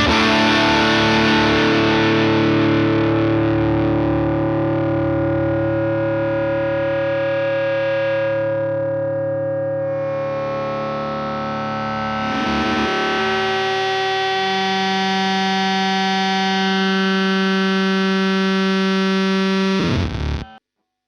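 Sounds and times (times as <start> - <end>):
distorted electric guitar: 0.0 - 20.6.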